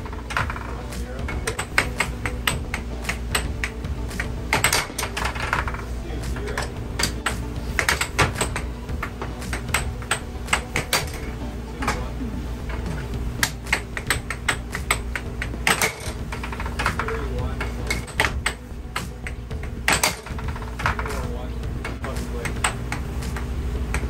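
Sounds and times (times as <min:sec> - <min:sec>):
air hockey puck clacking: 0:00.0 - 0:12.0, 0:12.7 - 0:24.0
steady low hum: 0:00.0 - 0:24.0.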